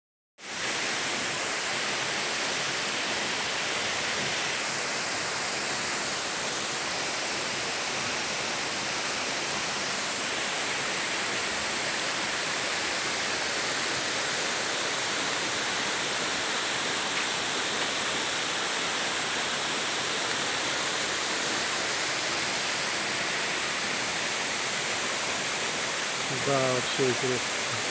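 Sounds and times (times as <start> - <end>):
waterfall rushing: 0.4 - 27.9.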